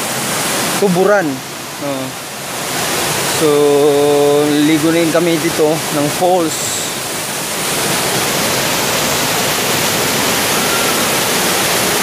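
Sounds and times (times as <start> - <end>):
waterfall pouring into a pool: 0.0 - 12.0.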